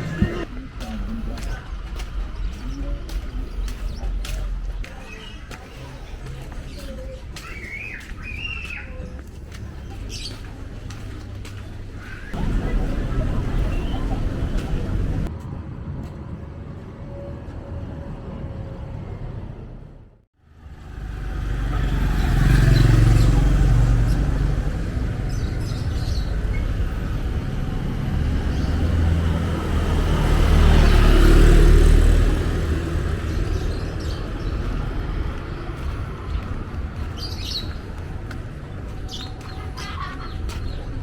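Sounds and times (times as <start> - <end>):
birds chirping: 0.0 - 15.3, 21.5 - 41.0
rumble of vehicles passing: 0.0 - 41.0.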